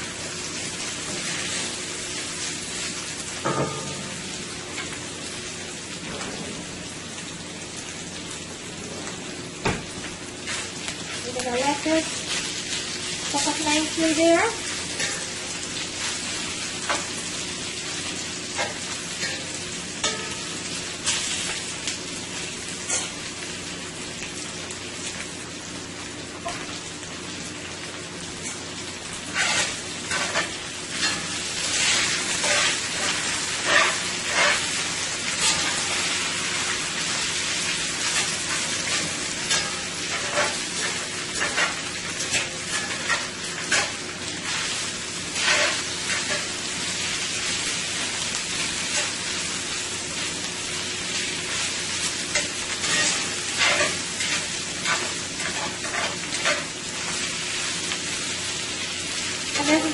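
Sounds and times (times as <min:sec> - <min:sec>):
chicken sizzling in oil: 0:00.0 - 0:59.9
sharp crackles of frying oil: 0:00.0 - 0:59.9.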